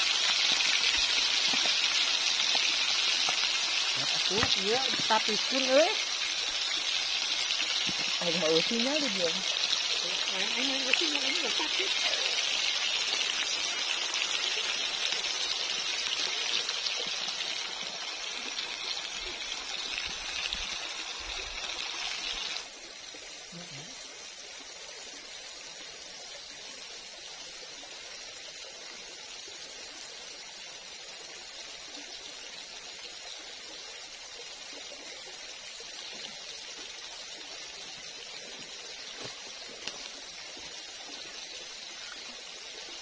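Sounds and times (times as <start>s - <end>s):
faint steady hiss: 0.0s - 43.0s
oil sizzling in a wok: 0.0s - 43.0s.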